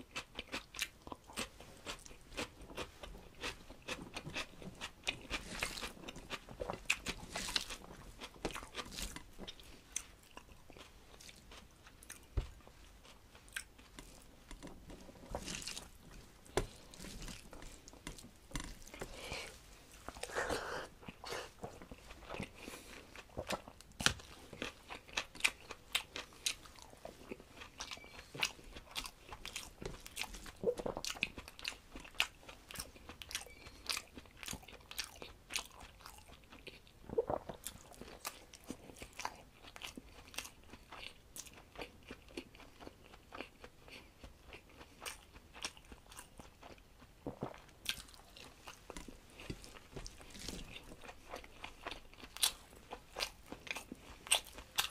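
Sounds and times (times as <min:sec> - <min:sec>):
man chewing food: 0:00.0 - 0:54.9.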